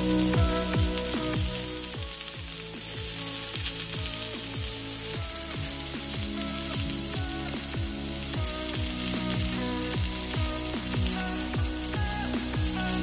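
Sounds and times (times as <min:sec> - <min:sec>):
electronic music with kick drum: 0:00.0 - 0:13.0
steak sizzling in a skillet: 0:00.0 - 0:13.0.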